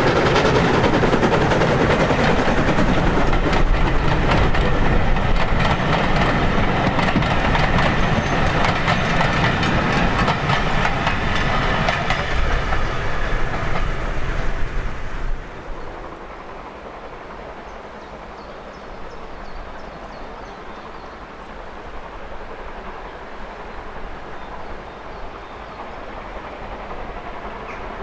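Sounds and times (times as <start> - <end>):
train wheels clicking on rails: 0.0 - 28.0.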